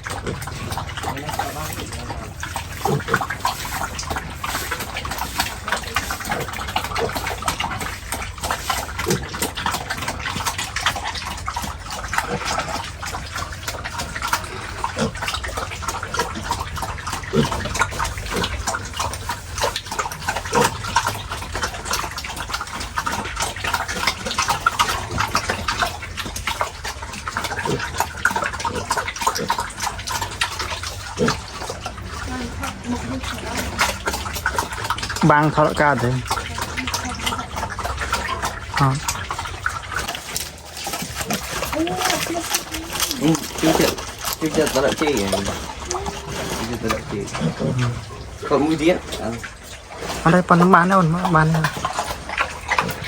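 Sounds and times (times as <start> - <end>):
pigs grunting: 0.0 - 53.0
pigs splashing and slurping: 0.0 - 53.0.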